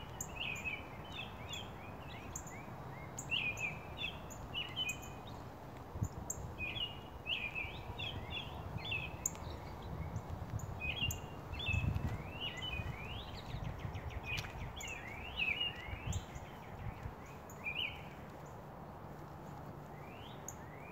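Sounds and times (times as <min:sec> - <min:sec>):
small songbirds chirping: 0:00.0 - 0:20.9.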